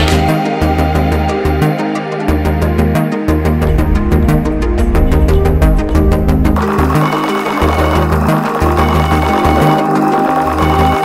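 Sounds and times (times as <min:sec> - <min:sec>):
electronic music with heavy bass: 0:01.2 - 0:11.0.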